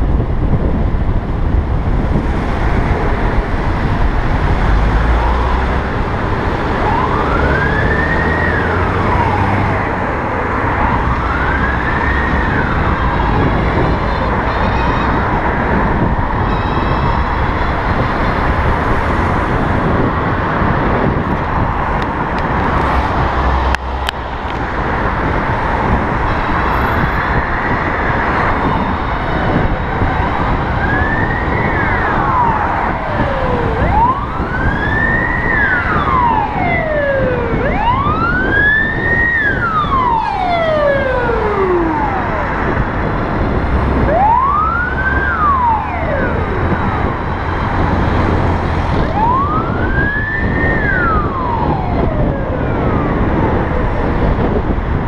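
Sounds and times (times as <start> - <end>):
wind and road noise: 0.0 - 55.0
emergency siren wailing: 2.0 - 23.3, 24.0 - 55.0.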